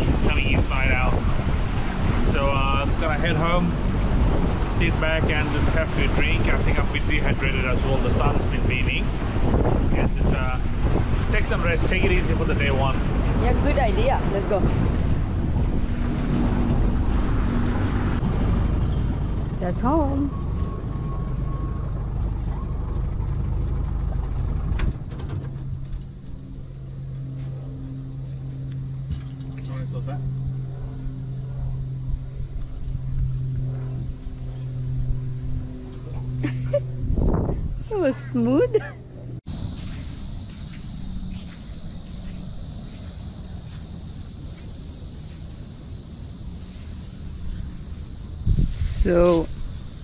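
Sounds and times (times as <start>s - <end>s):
insects droning: 0.0s - 50.0s
low rumble: 0.0s - 50.0s
outboard motor running: 0.0s - 50.0s.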